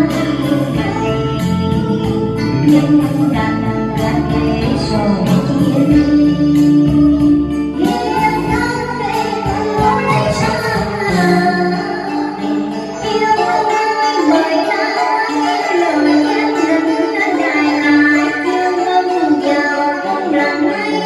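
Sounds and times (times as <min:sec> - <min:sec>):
backing music track: 0:00.0 - 0:21.0
woman singing into microphone: 0:00.0 - 0:21.0.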